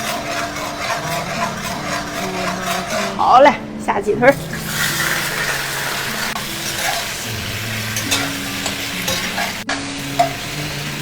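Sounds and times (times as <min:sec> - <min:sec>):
chicken sizzling in oil: 0:00.0 - 0:03.1, 0:04.4 - 0:11.0.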